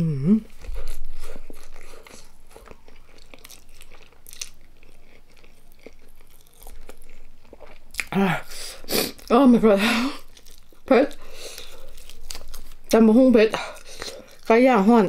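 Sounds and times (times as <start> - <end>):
person chewing crunchy food: 0.4 - 15.0.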